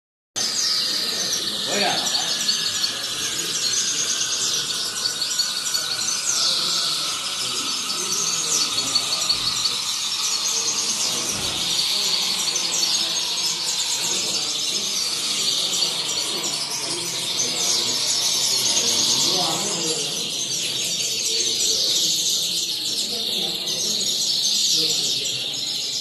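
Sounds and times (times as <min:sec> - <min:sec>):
finches singing trills: 0:00.4 - 0:26.0.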